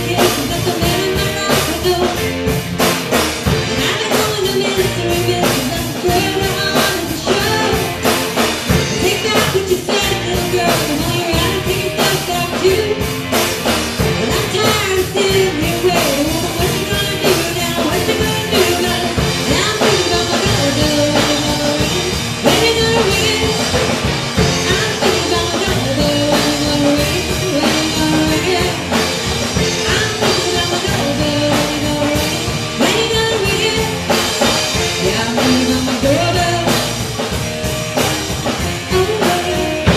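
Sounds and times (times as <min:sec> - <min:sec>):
lead vocal: 0:00.0 - 0:02.7, 0:03.3 - 0:37.6, 0:38.4 - 0:39.9
drum kit: 0:00.0 - 0:39.9
rock band playing: 0:00.0 - 0:39.9.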